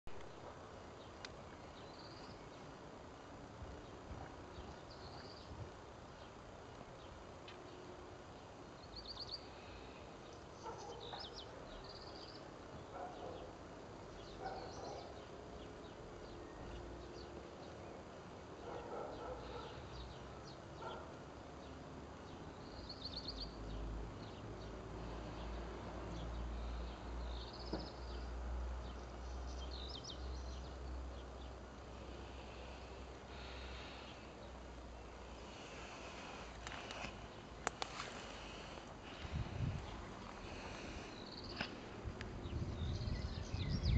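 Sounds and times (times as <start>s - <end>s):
small birds chirping: 0.2s - 43.9s.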